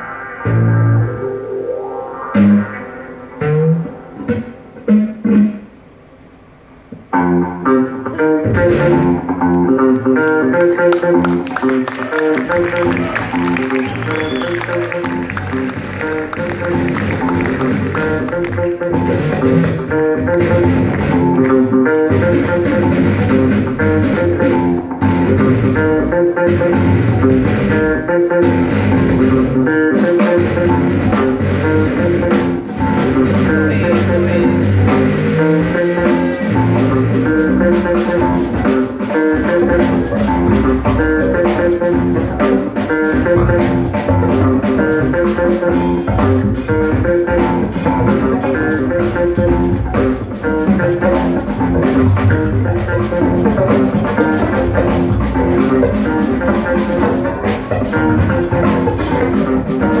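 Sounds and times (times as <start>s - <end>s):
bass line: 0.0s - 5.8s, 7.1s - 60.0s
drum kit: 0.0s - 5.8s, 6.8s - 60.0s
electric guitar: 0.0s - 60.0s.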